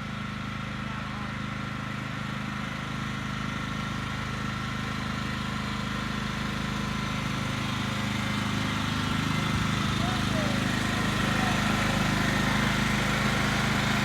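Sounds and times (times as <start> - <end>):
riding lawn mower engine running: 0.0 - 14.0.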